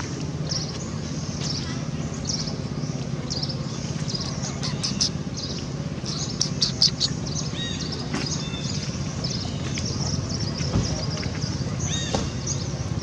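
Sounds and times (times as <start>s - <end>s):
low hum: 0.0s - 13.0s
small birds chirping: 0.0s - 13.0s.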